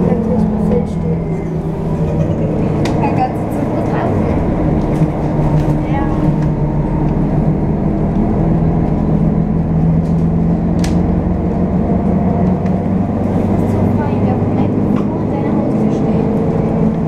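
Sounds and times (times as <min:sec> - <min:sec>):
bus engine and road drone: 0:00.0 - 0:17.0
low hum: 0:00.0 - 0:17.0.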